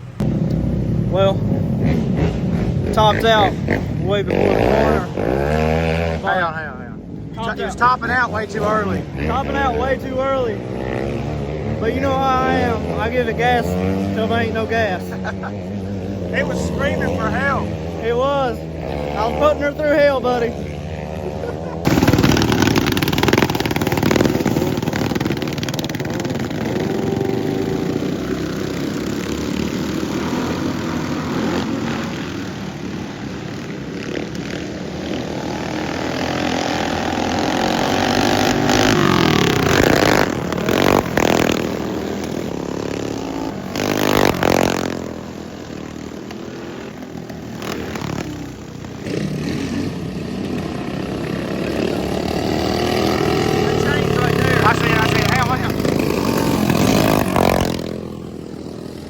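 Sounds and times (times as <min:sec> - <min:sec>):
racing lawnmower engines: 0:00.0 - 0:59.0.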